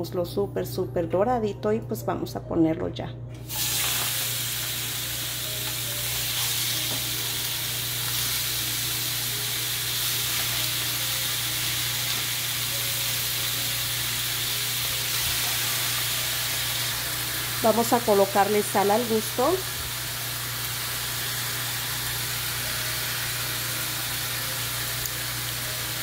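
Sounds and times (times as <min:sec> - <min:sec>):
chicken sizzling in frying pan: 0:03.5 - 0:26.0.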